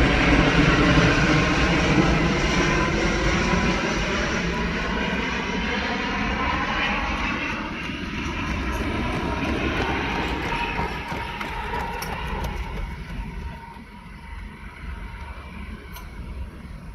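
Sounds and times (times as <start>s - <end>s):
jet airliner roar: 0.0s - 16.9s
faint steady whine: 2.0s - 16.9s.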